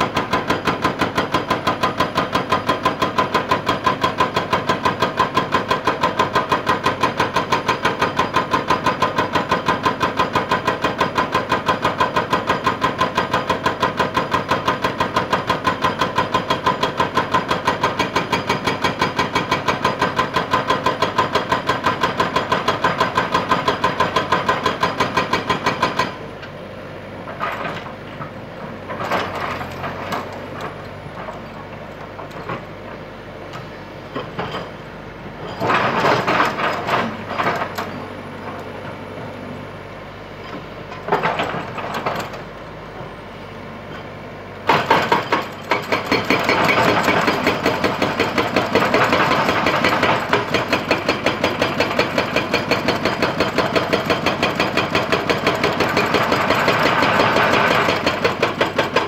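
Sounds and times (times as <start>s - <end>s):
hydraulic breaker hammering rock: 0.0s - 26.4s, 27.2s - 39.1s, 40.4s - 42.6s, 44.6s - 59.0s.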